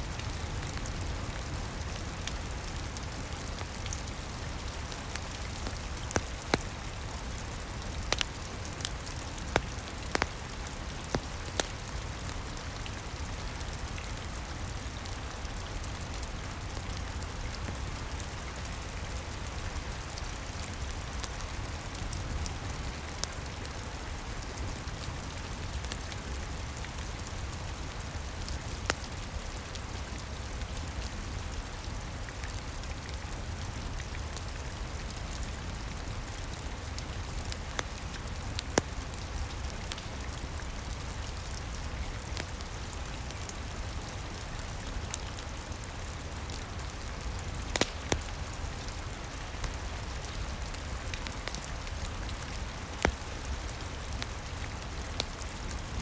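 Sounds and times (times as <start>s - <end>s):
rain patter: 0.0s - 56.0s
wood fire crackling and popping: 0.1s - 56.0s.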